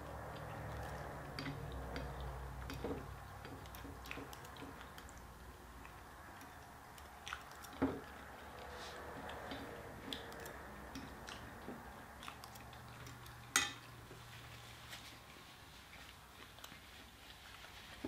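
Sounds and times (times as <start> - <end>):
chewing: 0.0 - 18.0.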